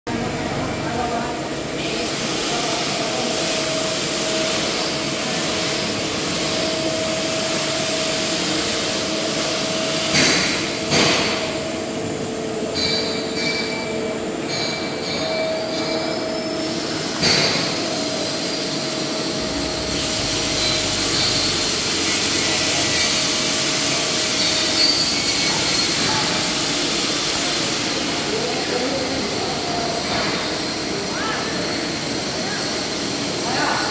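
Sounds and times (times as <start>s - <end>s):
continuous welding hiss: 0.2s - 33.9s.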